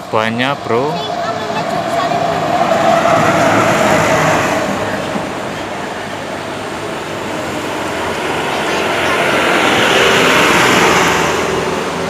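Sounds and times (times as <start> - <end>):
bus passing by: 0.0 - 12.0.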